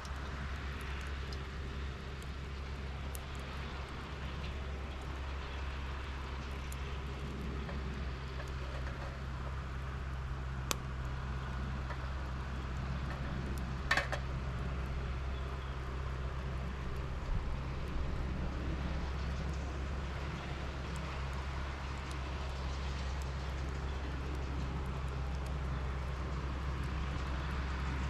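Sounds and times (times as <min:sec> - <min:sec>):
engine running with low hum: 0:00.0 - 0:28.0.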